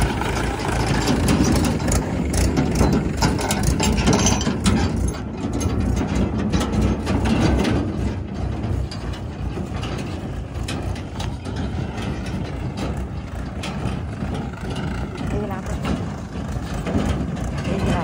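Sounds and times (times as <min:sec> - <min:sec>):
tractor diesel engine running: 0:00.0 - 0:18.0
trailer rattling and clanking: 0:00.0 - 0:18.0.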